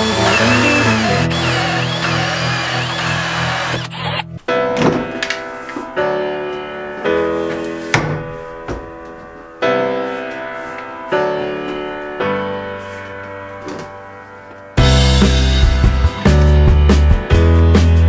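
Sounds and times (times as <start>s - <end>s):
piano-like chords: 0.0s - 15.6s.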